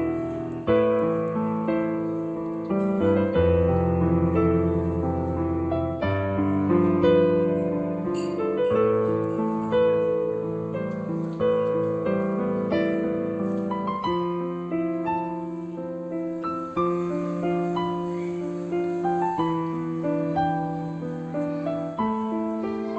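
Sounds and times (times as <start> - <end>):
slow piano music: 0.0 - 22.9.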